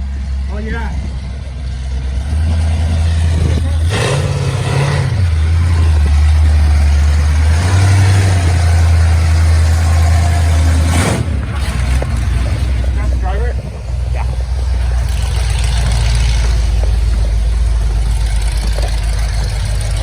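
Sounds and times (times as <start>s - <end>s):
trucks driving past: 0.0s - 20.0s.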